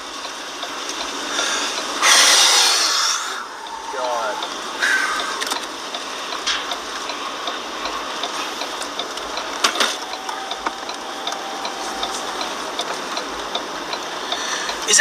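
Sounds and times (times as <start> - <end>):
regular ticking: 0.0 - 15.0
wind-driven rain rushing: 0.0 - 15.0.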